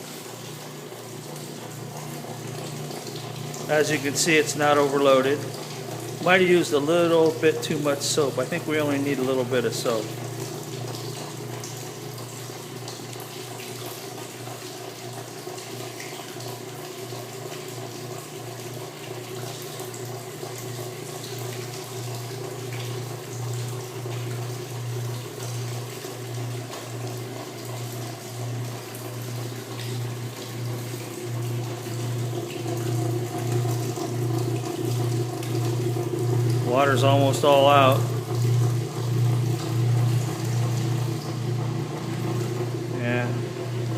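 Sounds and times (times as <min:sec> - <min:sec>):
drain pump humming: 0:00.0 - 0:43.9
water gushing: 0:00.0 - 0:43.9.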